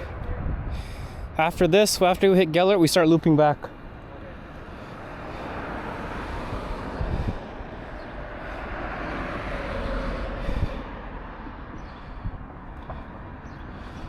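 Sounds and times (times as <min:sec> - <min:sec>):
wind rushing over microphone: 0:00.0 - 0:03.4, 0:04.4 - 0:14.0.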